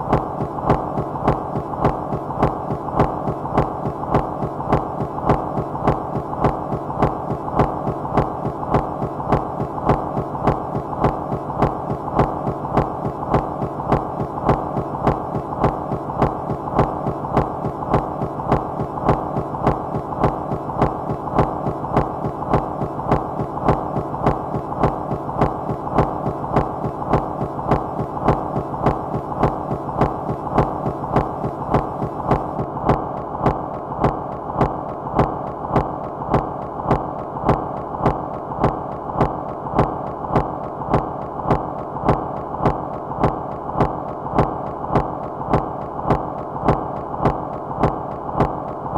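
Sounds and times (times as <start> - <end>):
electronic noise hum: 0.0 - 48.9.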